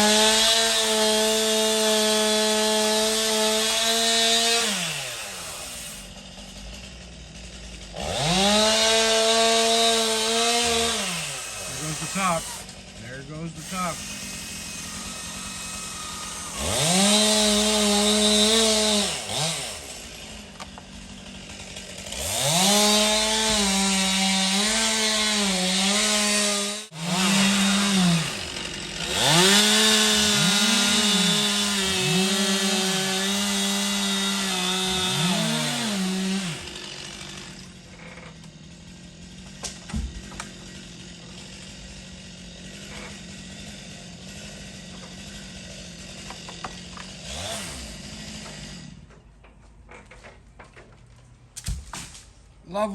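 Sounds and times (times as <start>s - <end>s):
chainsaw idling: 0.0s - 49.3s
chainsaw cutting: 0.0s - 50.9s.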